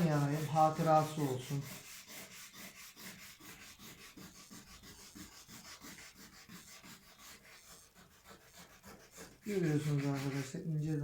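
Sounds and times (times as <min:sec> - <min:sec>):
hand sanding with sandpaper: 0:00.0 - 0:11.0.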